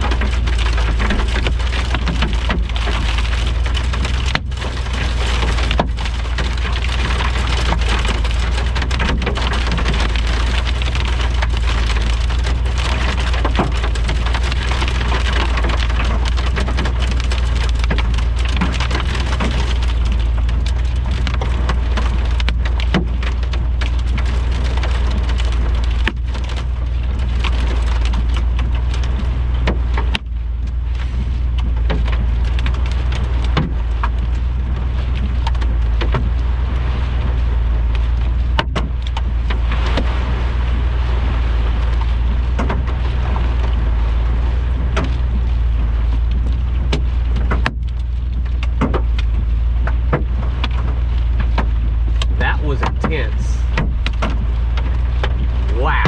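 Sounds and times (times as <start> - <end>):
heavy rain and hail pounding: 0.0 - 56.0
steady low rumble: 0.0 - 56.0.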